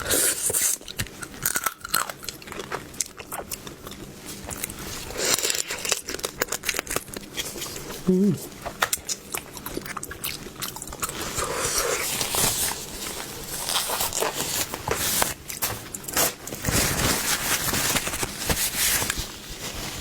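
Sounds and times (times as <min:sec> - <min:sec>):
crunching and wet chewing: 0:00.1 - 0:16.7.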